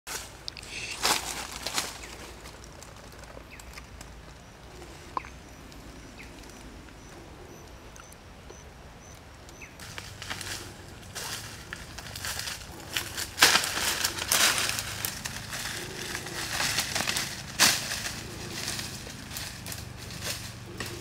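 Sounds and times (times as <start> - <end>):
dry leaves rustling and crunching: 0.1 - 6.9, 9.5 - 21.0.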